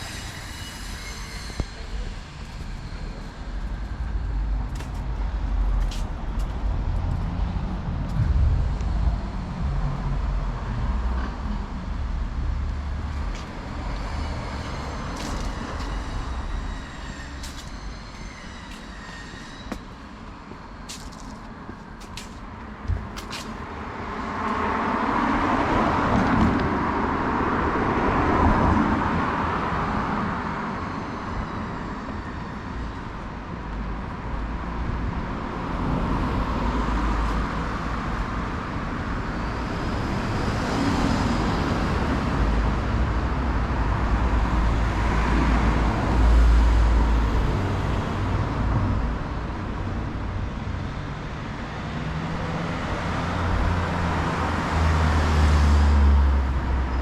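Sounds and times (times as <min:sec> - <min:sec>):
cars passing: 0:00.0 - 0:57.0
steady traffic rumble: 0:00.0 - 0:57.0.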